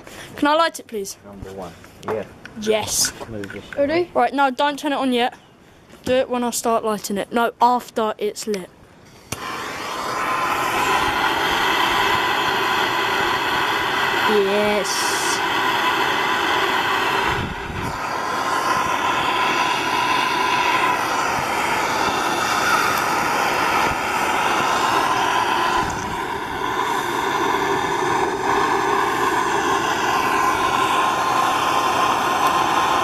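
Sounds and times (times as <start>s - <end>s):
propane torch burning: 0.0s - 5.2s, 8.3s - 33.0s.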